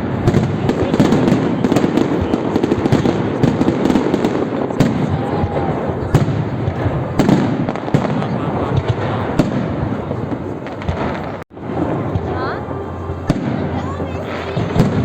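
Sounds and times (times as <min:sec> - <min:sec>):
sharp firework bangs: 0:00.0 - 0:12.6, 0:13.2 - 0:15.0
fireworks crackle and rumble: 0:00.0 - 0:15.0.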